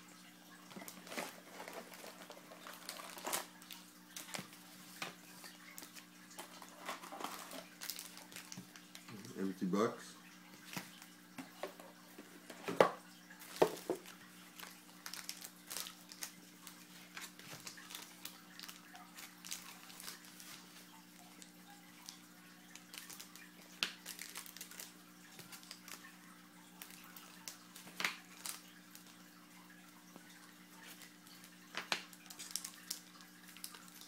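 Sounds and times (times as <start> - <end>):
faint steady hum: 0.0 - 34.0
rustling and crinkling of card packs: 0.6 - 9.9, 10.5 - 29.2, 30.1 - 34.0.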